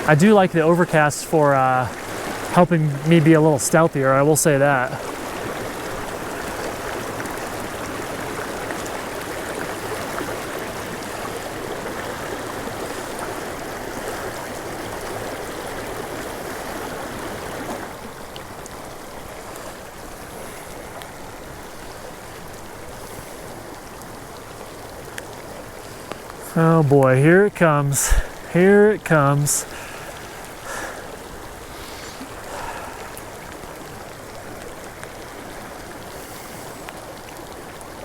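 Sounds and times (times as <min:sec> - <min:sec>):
creek water rushing: 0:00.0 - 0:38.0.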